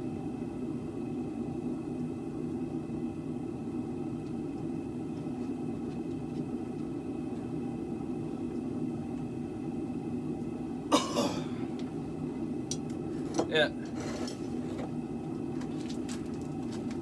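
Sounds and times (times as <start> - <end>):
faint even hum: 0.0 - 17.0
low mechanical rumble: 0.0 - 17.0.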